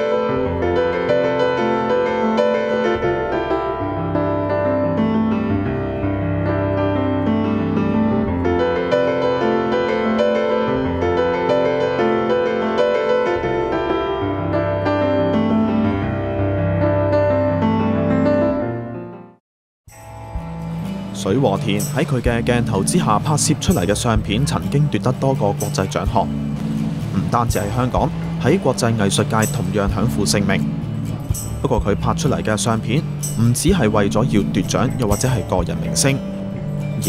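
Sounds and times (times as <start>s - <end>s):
piano background music: 0.0s - 37.0s.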